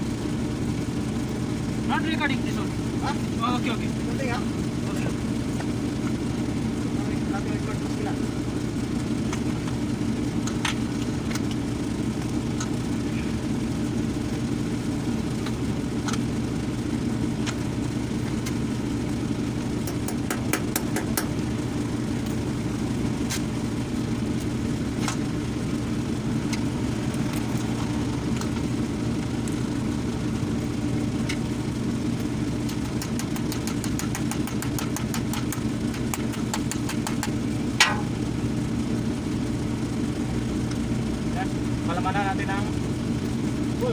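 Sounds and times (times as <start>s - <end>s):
engine idling hum: 0.0s - 43.9s.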